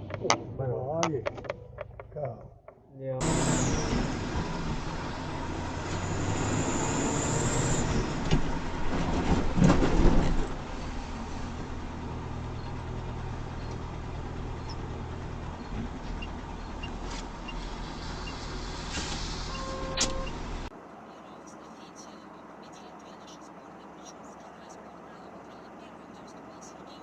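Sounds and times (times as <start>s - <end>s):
road noise: 0.0s - 27.0s
vehicle engine hum: 0.0s - 27.0s.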